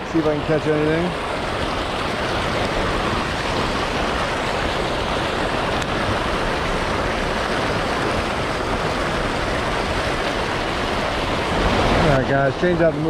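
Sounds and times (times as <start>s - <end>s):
water rushing through spillway: 0.0s - 13.0s.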